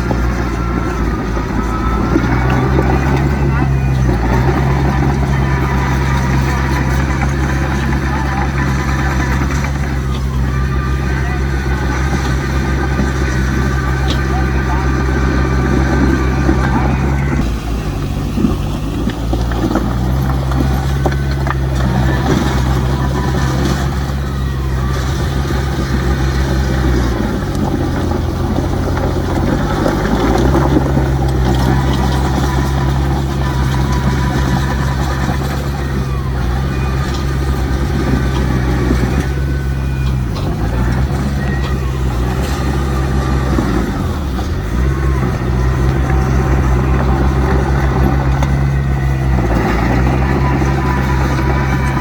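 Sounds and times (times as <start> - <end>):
diesel earthmoving machinery engine: 0.0 - 52.0.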